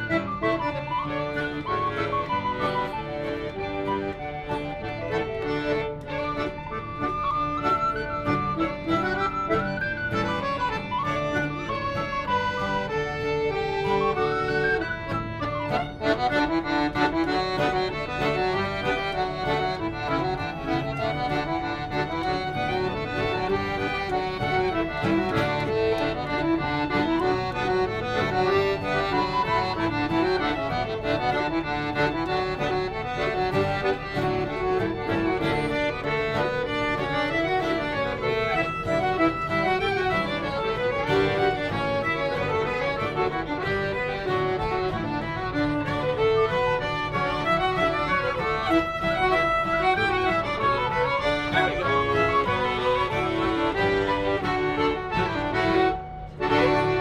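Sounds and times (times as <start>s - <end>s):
accordion: 0.0s - 57.0s
small wooden whistle: 0.0s - 57.0s.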